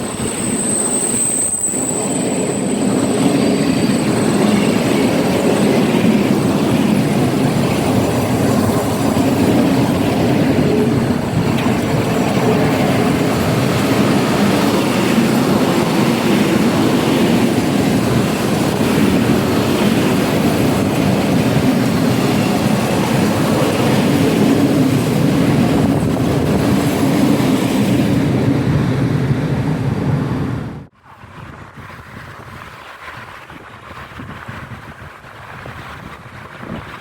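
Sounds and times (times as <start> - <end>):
train wheels on rails: 0.0 - 37.0
wind-like noise: 0.0 - 37.0.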